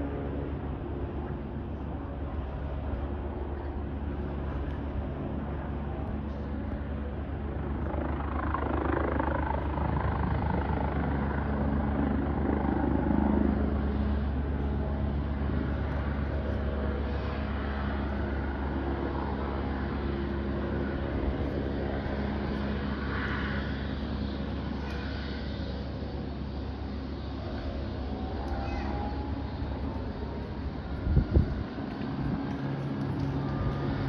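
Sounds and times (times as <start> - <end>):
aircraft engines droning: 0.0 - 34.0.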